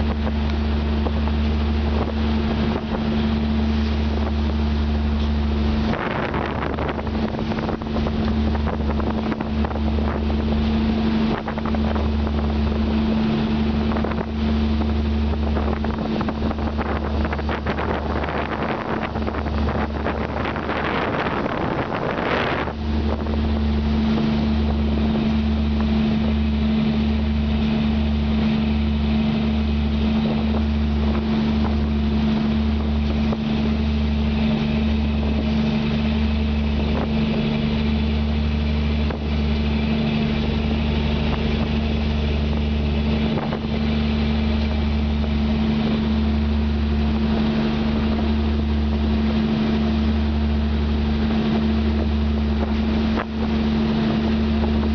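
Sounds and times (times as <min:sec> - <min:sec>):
boat engine droning: 0:00.0 - 0:54.9
rushing water: 0:00.0 - 0:54.9
wind on microphone: 0:00.0 - 0:54.9.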